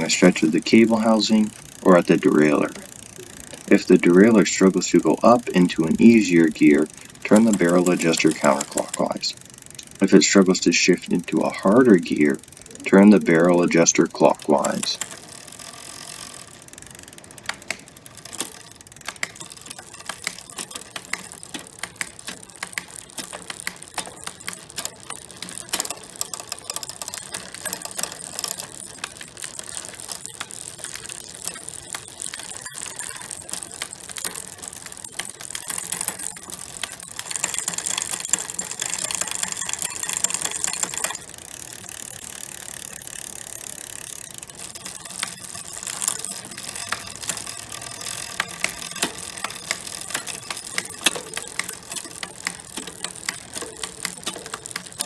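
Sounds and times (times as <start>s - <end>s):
bicycle chain clicking over gears: 0.0s - 55.0s.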